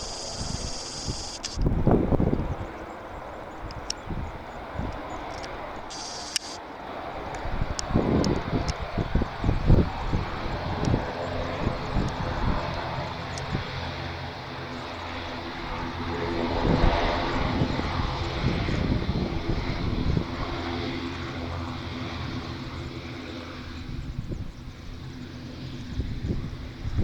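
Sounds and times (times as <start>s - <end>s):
wind gusts buffeting microphone: 0.0s - 5.9s, 7.0s - 27.0s
turboprop aircraft propeller drone: 0.0s - 27.0s.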